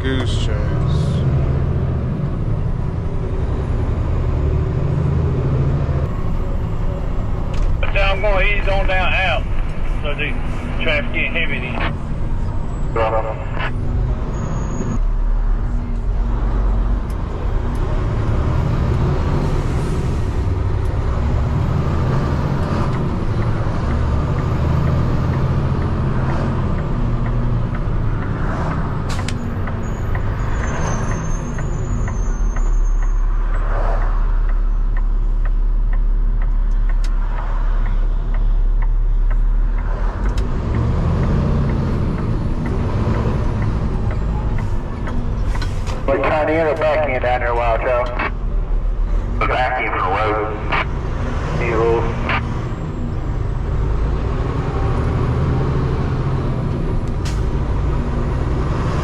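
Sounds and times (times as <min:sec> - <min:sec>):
truck diesel engine rumbling: 0:00.0 - 0:59.0.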